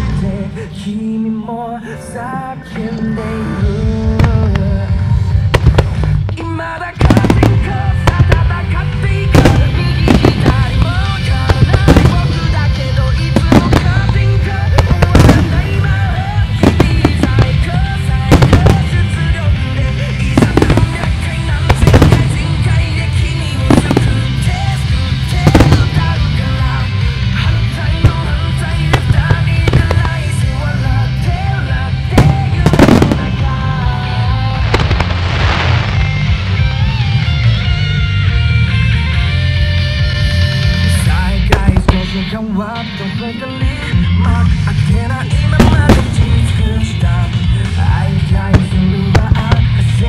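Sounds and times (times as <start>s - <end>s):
music with heavy bass beat: 3.7s - 50.0s.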